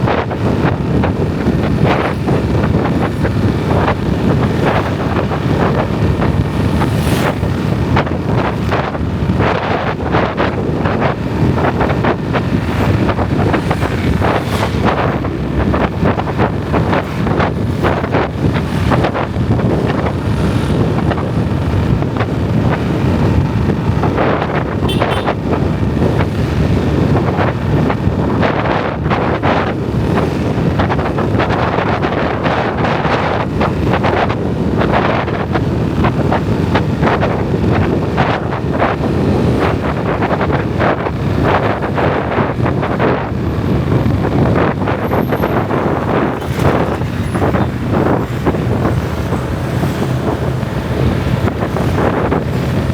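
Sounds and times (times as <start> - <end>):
road noise: 0.0 - 52.9
wind buffeting microphone: 0.0 - 52.9.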